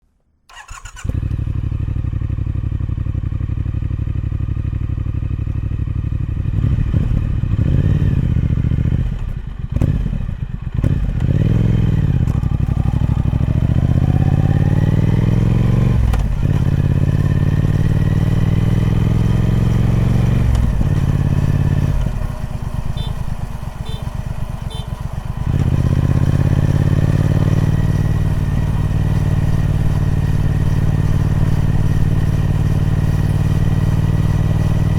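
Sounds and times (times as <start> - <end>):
motorcycle engine revving: 0.5 - 34.9.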